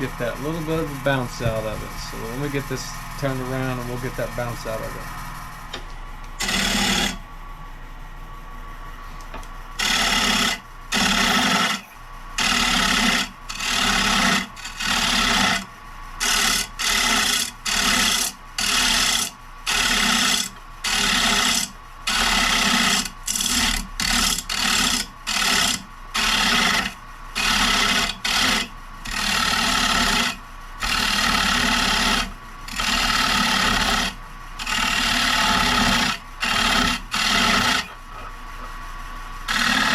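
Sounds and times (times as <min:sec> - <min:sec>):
tool scraping spinning wood: 0:00.0 - 0:05.7, 0:06.3 - 0:07.3, 0:09.0 - 0:38.8, 0:39.4 - 0:39.9
lathe humming: 0:00.0 - 0:39.9.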